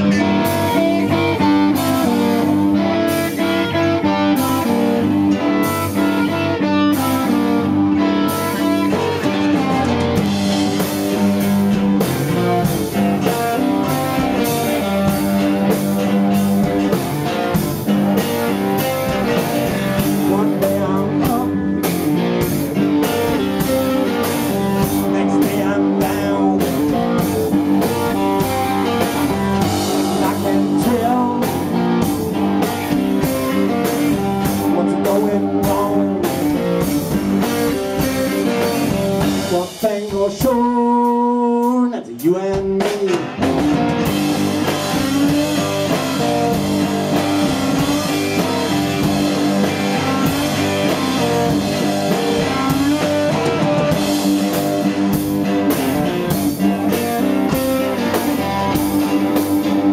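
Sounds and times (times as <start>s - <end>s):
drum kit steady beat: 0.0s - 59.9s
electric guitar: 0.0s - 59.9s
rock band playing: 0.0s - 59.9s.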